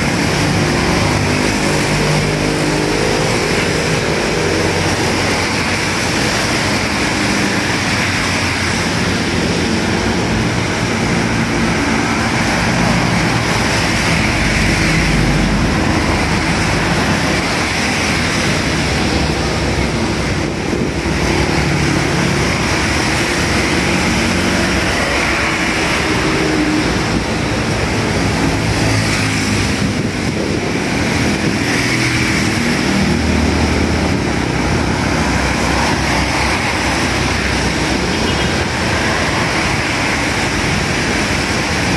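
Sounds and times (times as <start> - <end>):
vehicles passing on wet road: 0.0 - 41.9.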